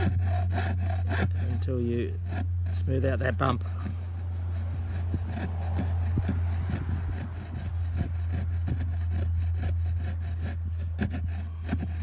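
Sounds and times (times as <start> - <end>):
hand saw cutting wood: 0.0 - 12.0
steady low hum: 0.0 - 12.0.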